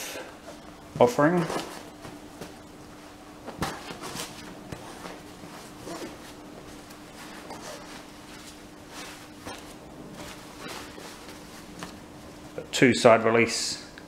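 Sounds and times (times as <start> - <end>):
fabric and webbing rustling: 0.5 - 12.6.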